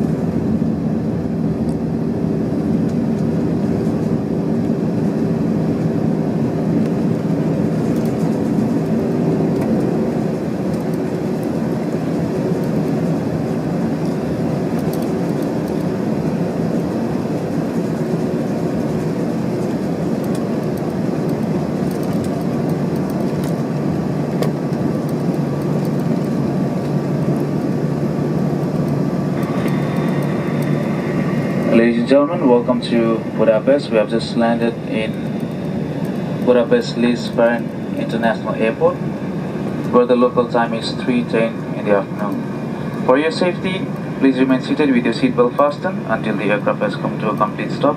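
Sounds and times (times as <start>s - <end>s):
jet engines and airflow rushing: 0.0s - 47.9s
steady hum: 0.0s - 47.9s.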